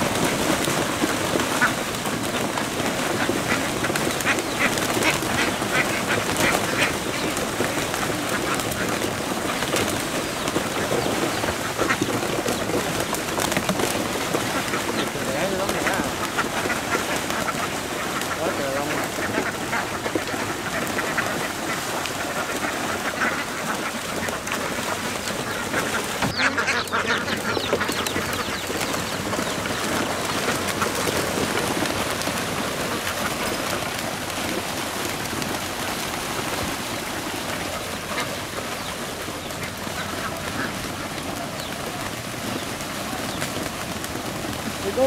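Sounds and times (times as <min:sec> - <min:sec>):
ducks quacking: 0:00.0 - 0:45.0
water splashing: 0:00.0 - 0:45.0
wings flapping in water: 0:00.0 - 0:45.0.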